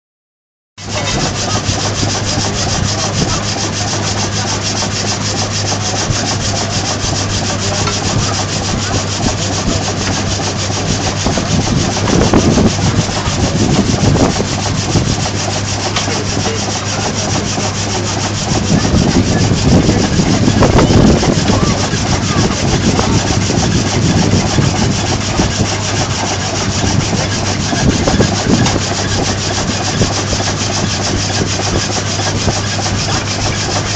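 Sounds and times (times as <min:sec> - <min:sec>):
low drive hum: 0:00.8 - 0:33.9
saw rasping through log: 0:00.8 - 0:33.9.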